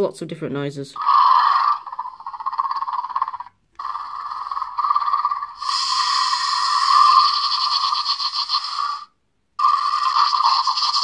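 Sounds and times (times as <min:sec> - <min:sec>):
toy roar through small speaker: 0:01.0 - 0:11.0.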